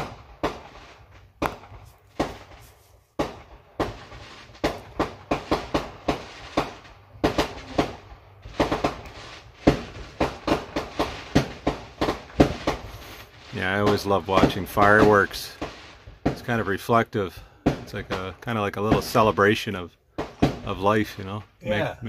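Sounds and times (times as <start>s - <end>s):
fireworks bangs and cracks: 0.0s - 21.6s.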